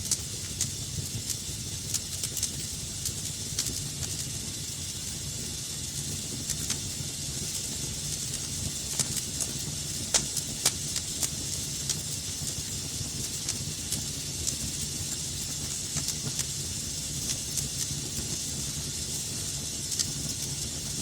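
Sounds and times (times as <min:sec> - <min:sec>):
fire hissing and rumbling: 0:00.0 - 0:21.0
wood fire crackling and popping: 0:00.0 - 0:21.0.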